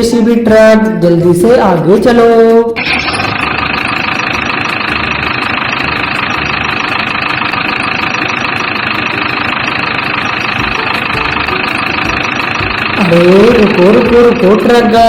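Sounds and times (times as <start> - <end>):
toy truck engine whining: 2.8 - 15.0.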